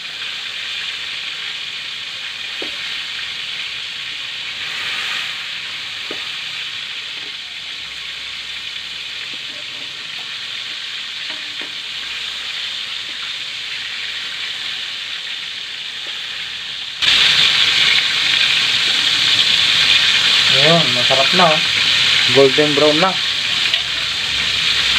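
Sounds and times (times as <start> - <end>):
chicken deep-frying in oil: 0.0 - 24.9.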